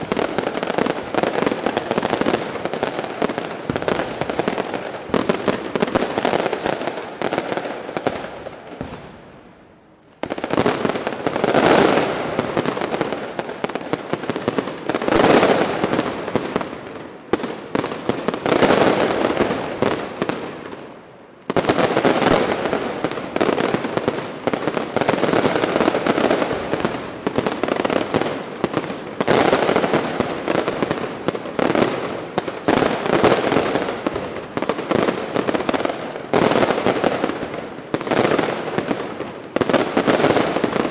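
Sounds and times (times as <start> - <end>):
fireworks crackles and bangs: 0.0 - 40.9.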